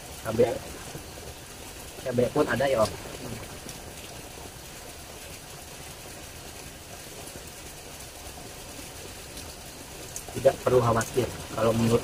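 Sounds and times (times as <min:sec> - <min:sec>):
stream running water: 0:00.0 - 0:12.0.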